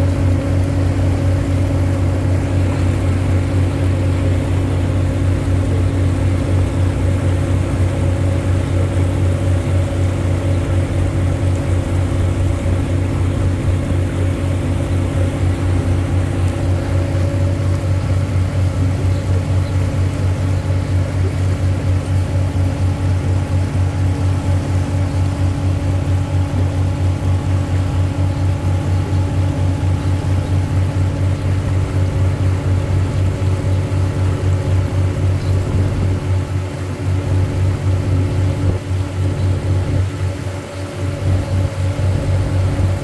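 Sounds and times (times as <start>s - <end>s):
boat engine throbbing hum: 0.0s - 43.0s.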